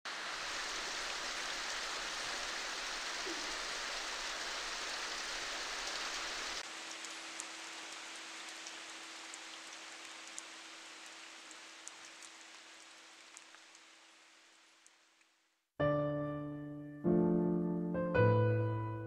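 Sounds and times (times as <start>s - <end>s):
steady rain falling: 0.0s - 15.8s
water drips: 0.1s - 15.4s.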